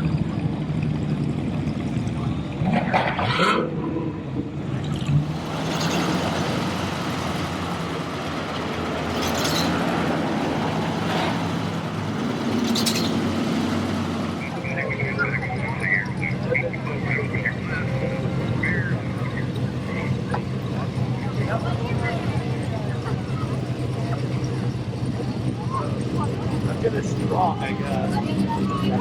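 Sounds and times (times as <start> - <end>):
car engines humming: 0.0 - 29.0
noisy background: 0.0 - 29.0.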